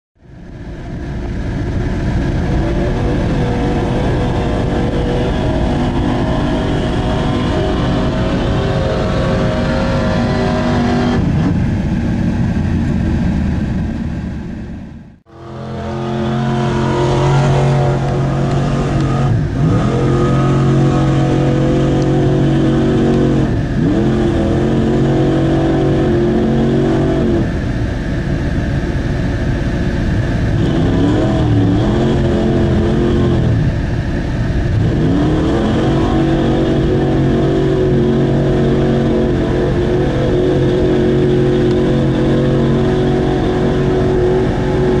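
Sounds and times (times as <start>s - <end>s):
truck engine running hard: 0.2s - 45.0s.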